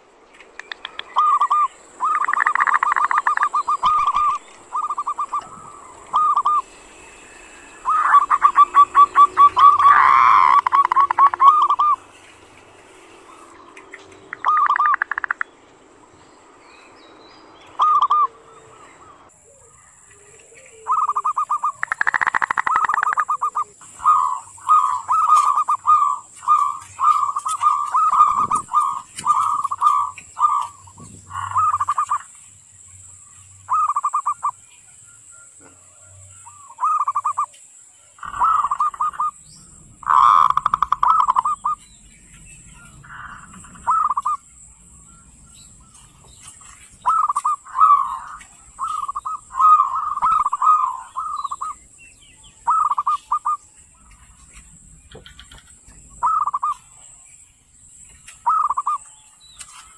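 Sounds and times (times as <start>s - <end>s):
dove cooing: 0.6s - 15.4s, 17.7s - 32.3s, 33.7s - 34.6s, 35.4s - 37.6s, 38.2s - 57.0s, 58.4s - 59.1s.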